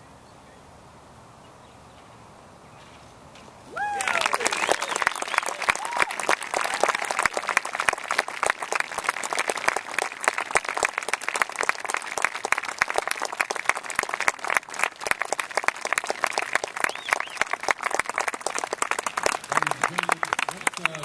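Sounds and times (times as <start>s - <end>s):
crowd applauding: 3.7s - 21.0s.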